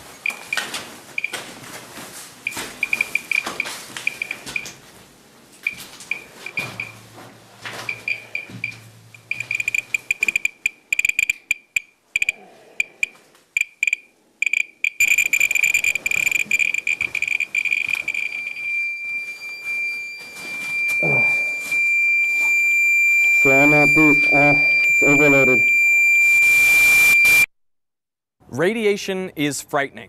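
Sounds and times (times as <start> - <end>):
radiation meter beeping: 0.2 - 1.4, 2.4 - 4.8, 5.6 - 7.0, 7.8 - 27.5.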